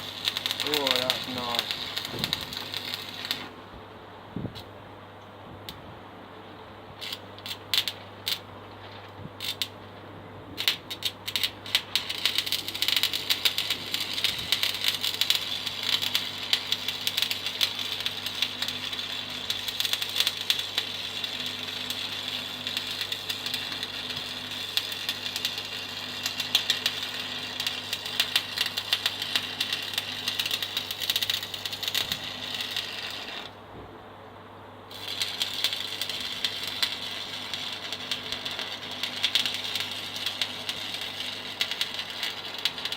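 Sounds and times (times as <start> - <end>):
welding arc crackling: 0.0 - 3.6, 7.0 - 9.8, 10.6 - 33.6, 34.9 - 42.9
steady low hum: 0.0 - 42.9.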